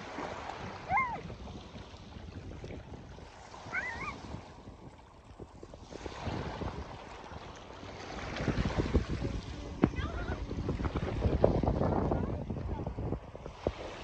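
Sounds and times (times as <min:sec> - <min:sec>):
water lapping at shore: 0:00.0 - 0:14.0
wind buffeting microphone: 0:00.0 - 0:14.0.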